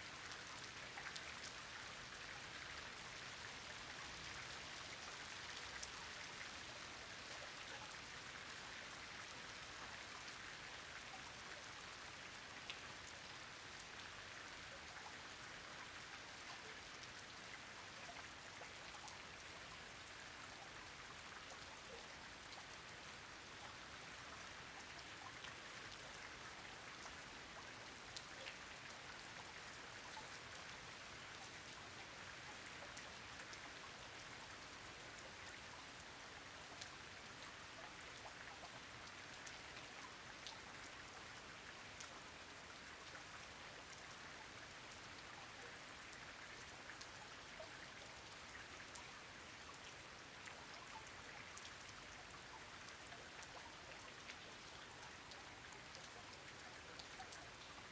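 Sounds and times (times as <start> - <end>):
rain falling on a pond: 0.0 - 57.9.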